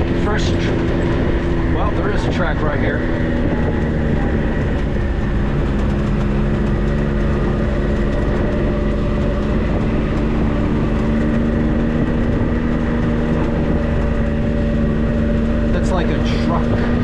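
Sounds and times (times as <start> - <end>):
off-road vehicle engine rumbling: 0.0 - 17.0.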